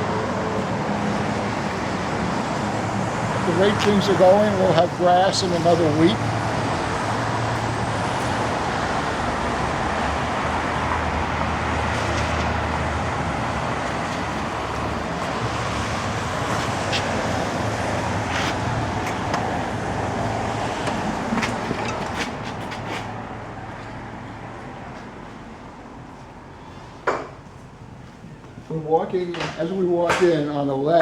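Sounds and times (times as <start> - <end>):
low engine hum: 0.0 - 29.2
road traffic: 0.0 - 31.0.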